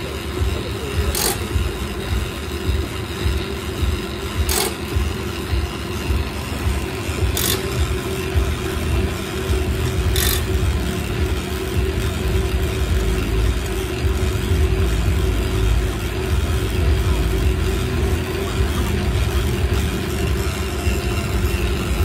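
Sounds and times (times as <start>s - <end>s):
bike rollers rumbling and whirring: 0.0s - 22.0s.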